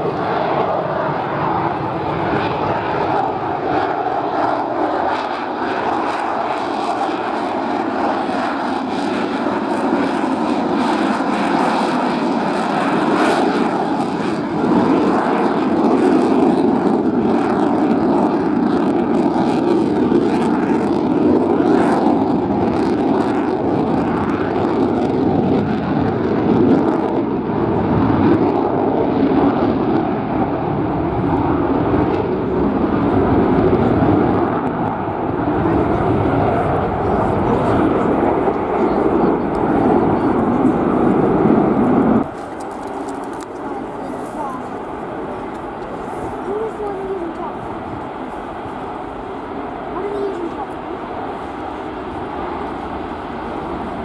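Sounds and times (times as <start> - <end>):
jet engine roar: 0.0 - 54.0
jet noise crackles: 0.0 - 54.0.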